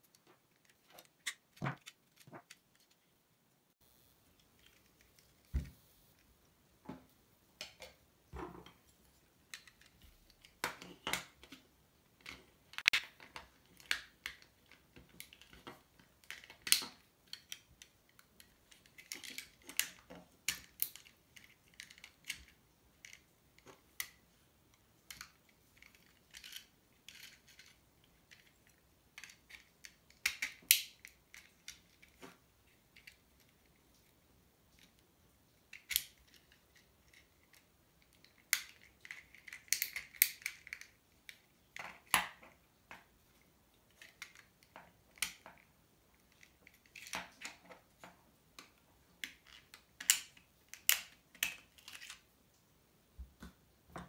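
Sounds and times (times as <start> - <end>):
clicks and scrapes of small parts: 0.0 - 3.2, 4.3 - 6.3, 7.6 - 52.3.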